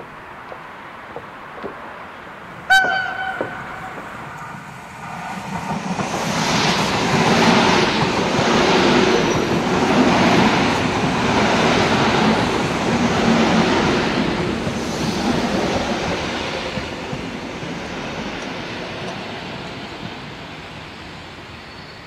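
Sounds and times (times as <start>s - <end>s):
train wheels rushing on rails: 0.5s - 22.0s.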